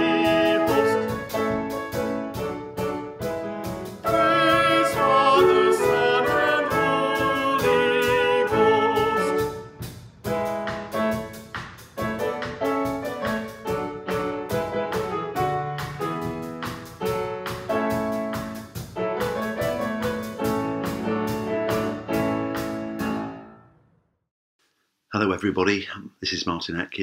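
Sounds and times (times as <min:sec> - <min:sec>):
drum kit beat: 0:00.0 - 0:23.3
piano chords: 0:00.0 - 0:23.6.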